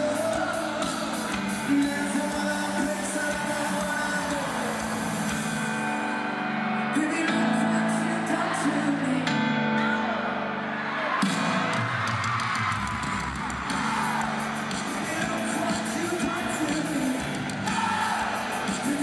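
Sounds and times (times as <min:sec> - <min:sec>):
male lead vocal: 0:00.0 - 0:05.8, 0:06.7 - 0:11.4, 0:13.7 - 0:19.0
live pop-rock band: 0:00.0 - 0:19.0.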